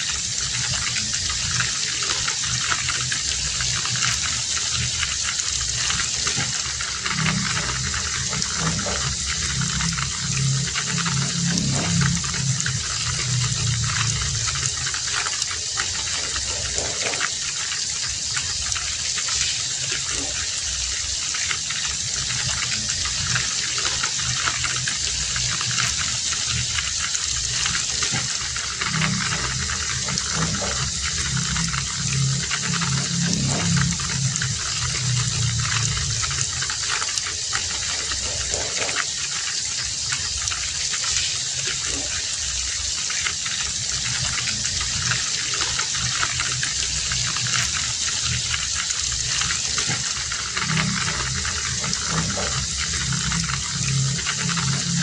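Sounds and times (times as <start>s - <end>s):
low pulsing sound: 0.0s - 19.1s, 21.9s - 39.1s, 43.6s - 55.0s
heavy rain falling: 0.0s - 55.0s.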